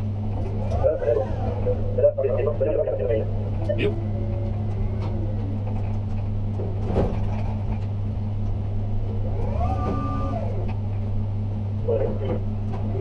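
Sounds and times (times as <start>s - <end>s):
crane machinery hum: 0.0s - 13.0s
drive whine: 0.0s - 13.0s.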